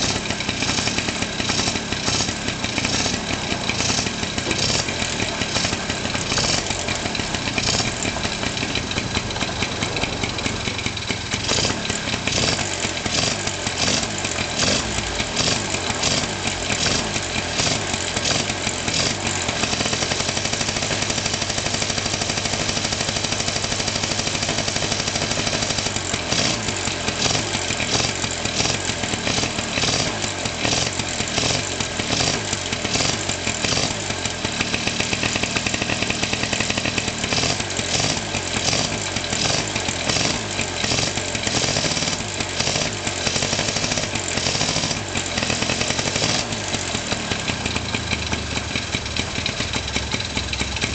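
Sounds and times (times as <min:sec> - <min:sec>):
scooter engine running: 0:00.0 - 0:50.9.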